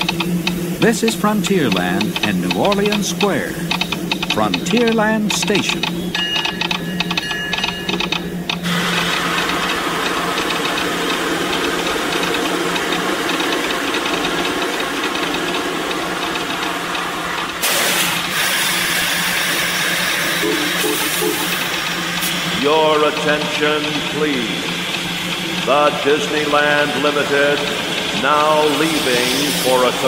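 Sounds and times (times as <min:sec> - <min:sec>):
low hum: 0:00.0 - 0:30.0
steam hiss: 0:00.0 - 0:30.0
train running and rattling: 0:00.0 - 0:30.0.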